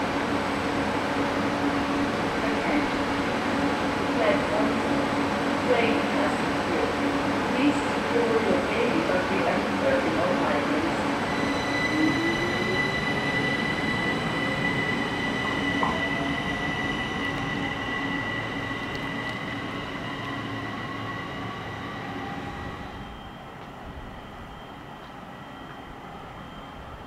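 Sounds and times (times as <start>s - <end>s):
electric train accelerating: 0.0s - 27.0s.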